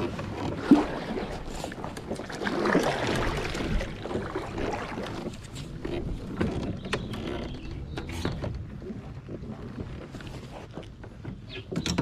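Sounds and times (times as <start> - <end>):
water sloshing around hull: 0.0 - 12.0.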